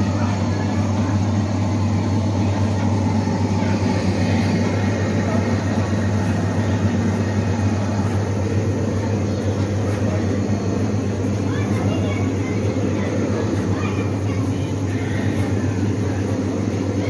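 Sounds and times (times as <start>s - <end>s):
machine motor humming: 0.0s - 17.0s.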